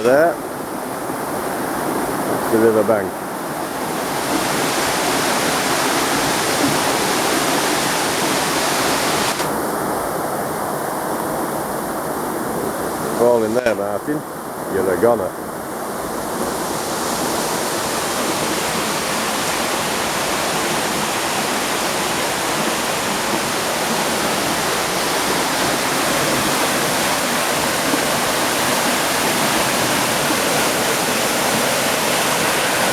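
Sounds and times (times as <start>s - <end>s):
rushing brook water: 0.0s - 32.9s.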